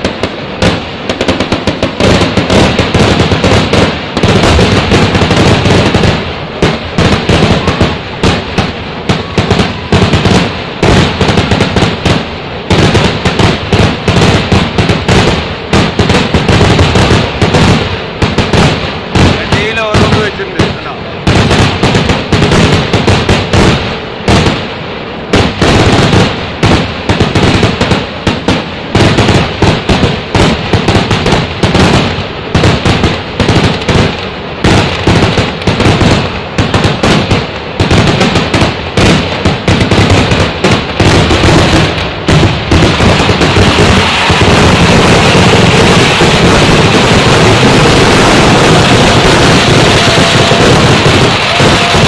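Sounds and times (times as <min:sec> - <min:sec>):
firecracker cracks and bangs: 0:00.0 - 0:52.0.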